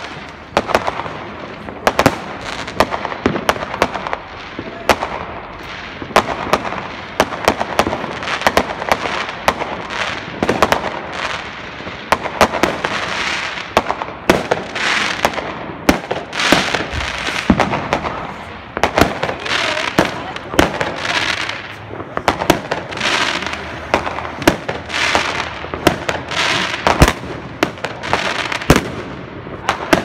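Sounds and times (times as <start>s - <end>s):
firework bangs and pops: 0.0s - 30.0s.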